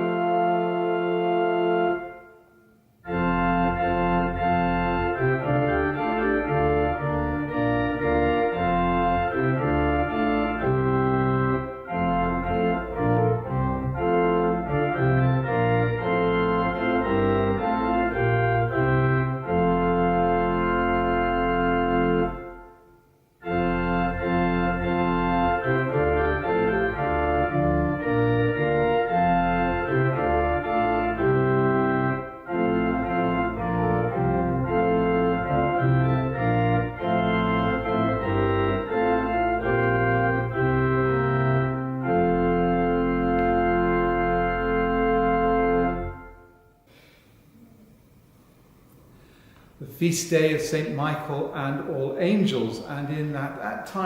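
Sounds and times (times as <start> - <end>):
church organ playing a hymn: 0.0 - 54.0.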